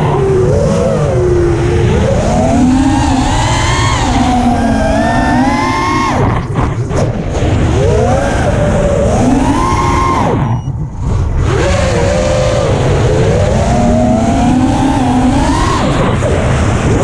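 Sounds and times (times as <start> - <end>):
quadcopter motors whining: 0.0 - 6.5, 7.8 - 10.8, 11.4 - 16.4
wind rumble on microphone: 0.0 - 17.0.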